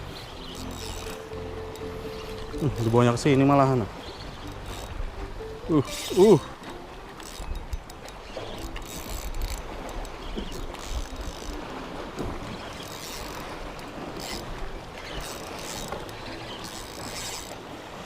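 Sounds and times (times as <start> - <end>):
sea water washing: 0.0 - 18.0.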